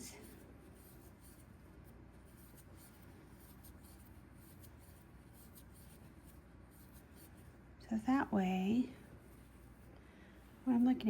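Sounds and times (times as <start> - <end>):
crochet hook scratching yarn: 0.0 - 11.0.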